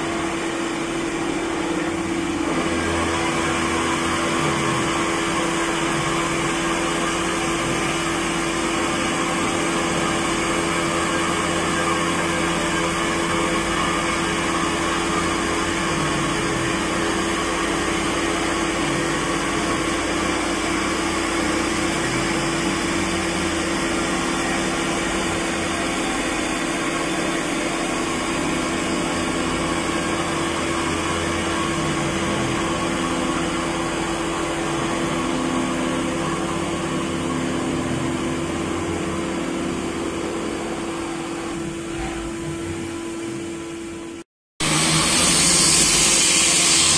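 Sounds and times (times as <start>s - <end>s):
milling machine cutting metal: 0.0s - 43.7s, 44.6s - 46.9s
mid-pitched machine whine: 0.0s - 46.9s.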